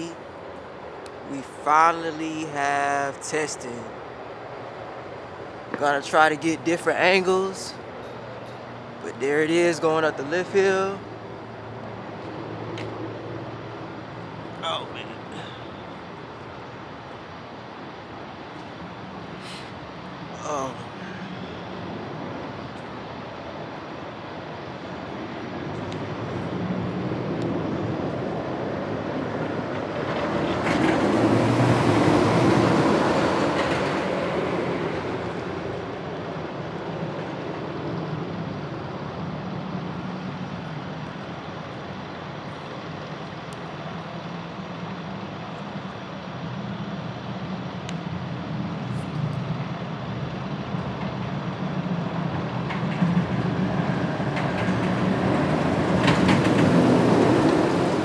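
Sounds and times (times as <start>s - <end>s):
roller coaster rumbling on track: 0.0s - 58.0s.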